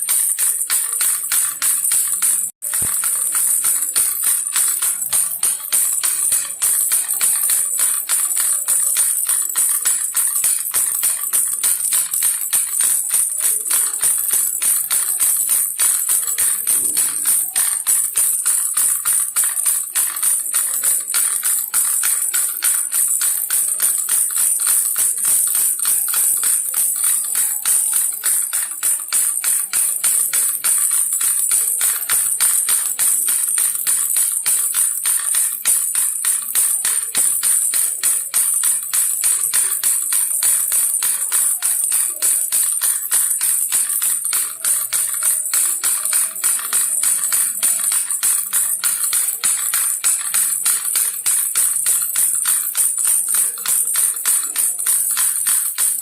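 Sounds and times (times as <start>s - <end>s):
baby rattle jingling: 0.0s - 56.0s.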